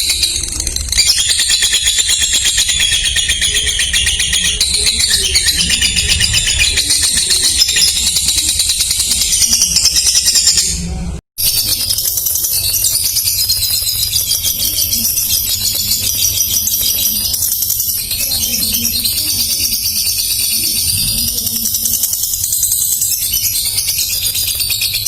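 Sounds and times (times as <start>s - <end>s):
lovebird high-pitched chatter: 0.0s - 10.8s, 11.4s - 25.0s.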